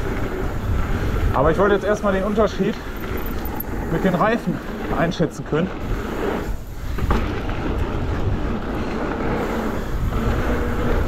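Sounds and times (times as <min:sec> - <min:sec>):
bike tyres rolling on trail: 0:00.0 - 0:11.0
wind rumbling on microphone: 0:00.0 - 0:11.0.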